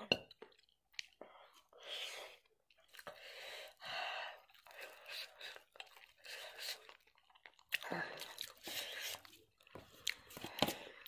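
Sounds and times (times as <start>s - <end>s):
person chewing food: 0.4s - 11.0s.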